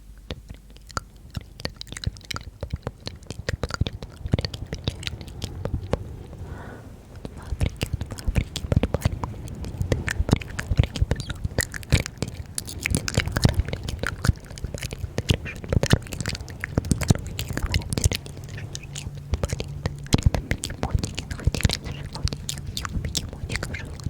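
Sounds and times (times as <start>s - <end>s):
wet mouth clicks and smacks: 0.2s - 24.0s.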